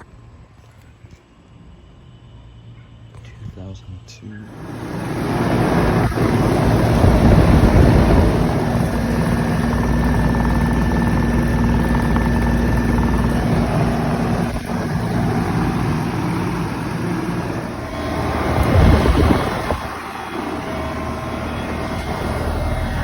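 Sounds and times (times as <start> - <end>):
air conditioner compressor humming: 3.4 - 23.0
condenser fan whooshing: 4.4 - 23.0.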